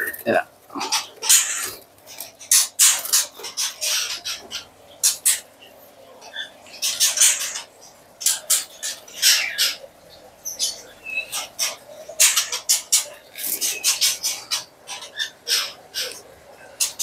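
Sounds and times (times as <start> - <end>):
birds giving harsh calls: 0.0 - 17.0.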